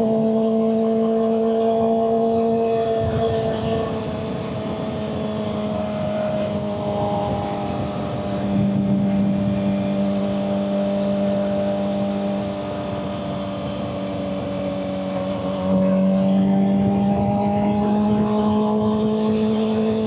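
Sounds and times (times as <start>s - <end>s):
motorcycle engine running: 0.0s - 20.0s
wind rush: 1.3s - 20.0s.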